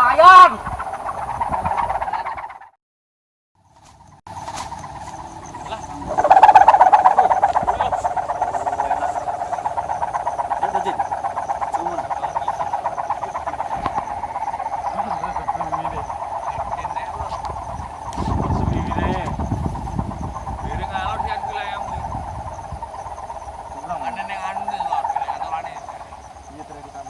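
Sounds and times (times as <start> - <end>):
kite hummer buzzing in wind: 0.0 - 2.7, 3.7 - 27.0.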